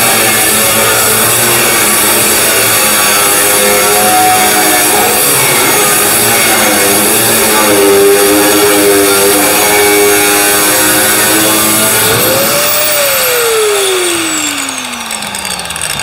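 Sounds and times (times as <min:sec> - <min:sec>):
angle grinder grinding steel: 0:00.0 - 0:16.0.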